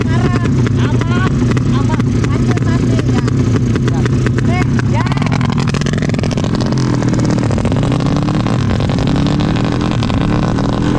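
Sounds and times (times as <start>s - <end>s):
motorcycle engine at full throttle: 0.0s - 10.9s.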